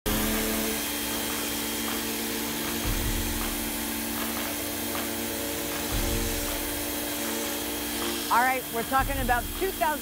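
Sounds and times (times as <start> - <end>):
pressure washer motor humming: 0.1 - 10.0
water jet spraying a fence: 0.1 - 10.0.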